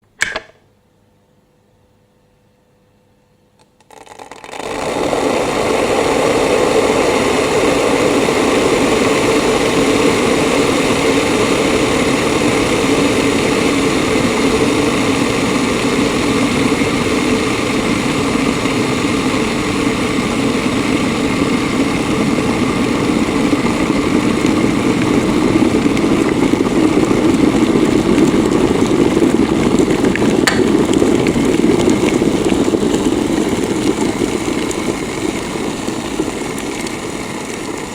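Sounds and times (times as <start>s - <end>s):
electric kettle heating water: 0.2s - 0.6s, 3.6s - 37.9s.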